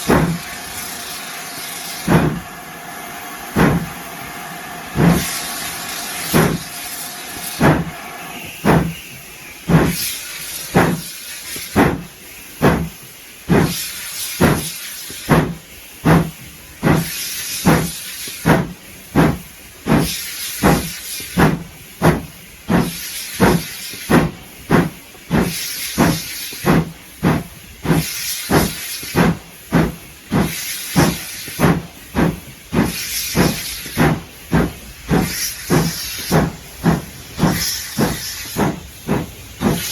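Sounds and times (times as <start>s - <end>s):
steam locomotive exhaust chuffing: 0.0s - 39.9s.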